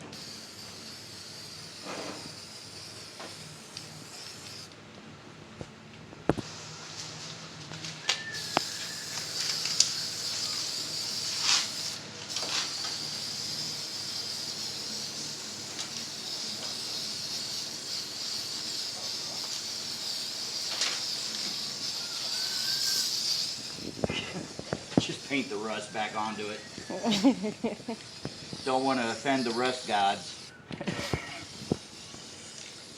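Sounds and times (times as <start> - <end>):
aerosol can spraying hiss: 0.1 - 4.7, 8.4 - 25.6, 27.2 - 32.9.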